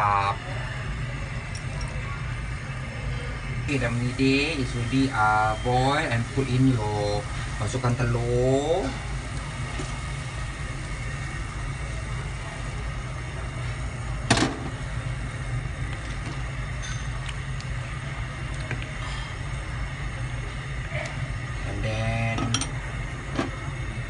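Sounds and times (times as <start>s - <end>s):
soup boiling: 0.0s - 24.0s.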